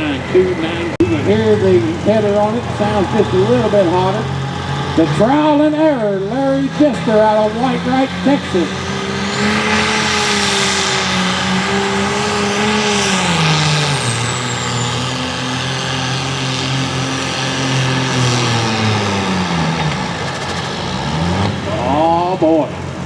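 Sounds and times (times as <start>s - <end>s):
tractor engine at full power: 0.0s - 23.0s.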